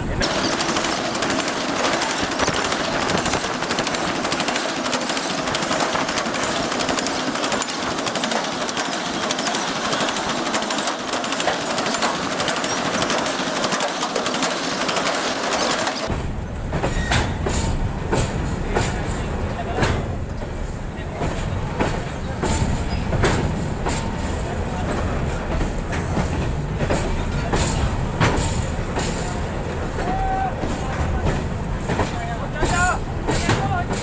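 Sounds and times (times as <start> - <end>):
freight train wheels clattering: 0.0 - 34.0.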